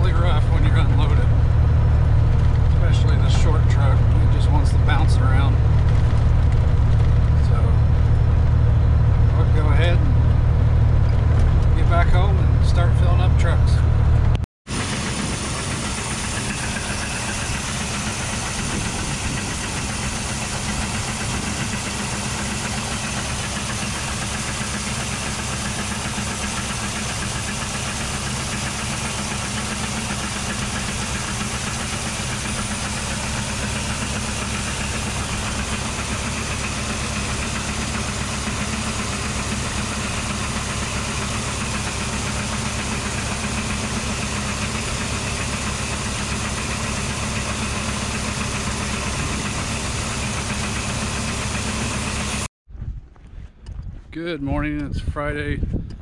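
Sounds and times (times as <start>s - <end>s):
grain auger droning: 0.0s - 52.5s.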